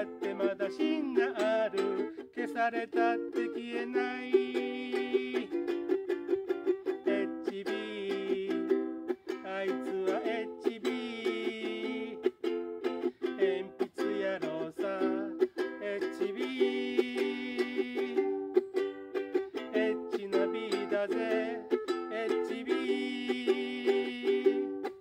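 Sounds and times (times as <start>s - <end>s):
ukulele strumming: 0.0s - 25.0s.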